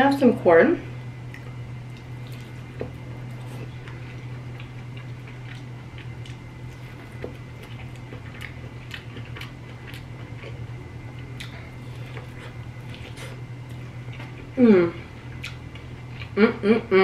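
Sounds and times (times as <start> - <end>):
steady low hum: 0.0 - 17.0
chewing and crunching: 1.2 - 16.4.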